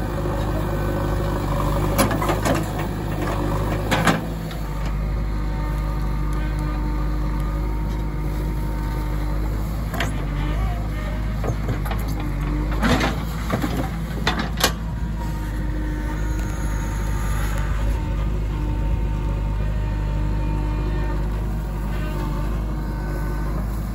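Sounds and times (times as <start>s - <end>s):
diesel engine under load: 0.0s - 23.9s.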